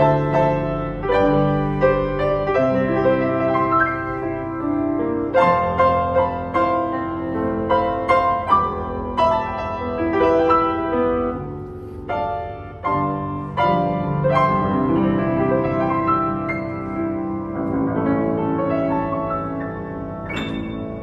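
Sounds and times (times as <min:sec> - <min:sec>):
upright piano chords: 0:00.0 - 0:21.0.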